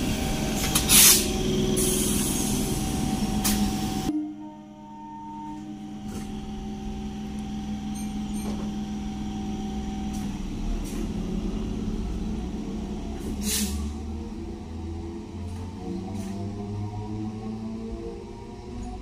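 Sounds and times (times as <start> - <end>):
train rumble: 0.0 - 4.1, 4.8 - 19.0
electric train hum: 0.0 - 19.0.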